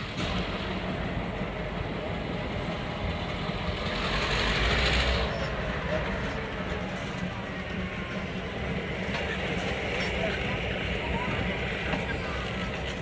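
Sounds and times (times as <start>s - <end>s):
diesel locomotive engine rumble: 0.0s - 13.0s
wheel and rail noise: 0.0s - 13.0s.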